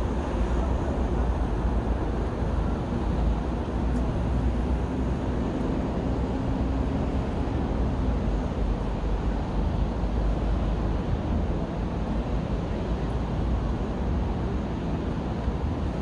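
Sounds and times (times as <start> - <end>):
urban traffic rumble: 0.0 - 16.0.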